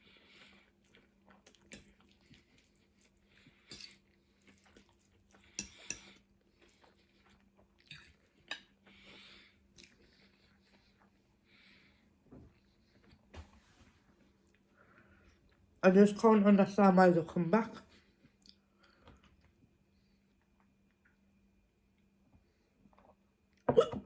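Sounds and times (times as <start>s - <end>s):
chewing with soft crunches: 0.0s - 13.3s, 14.1s - 15.8s, 17.9s - 23.6s.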